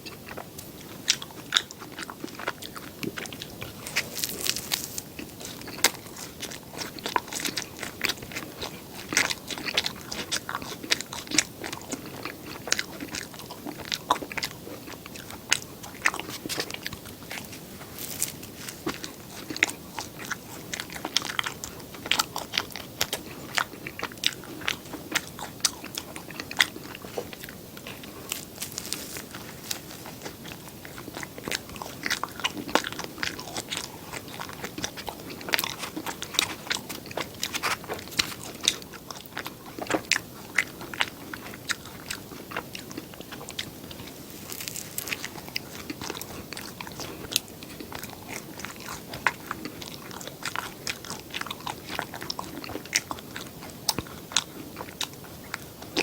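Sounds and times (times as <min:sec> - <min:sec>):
person chewing with crunches: 0:00.0 - 0:56.0.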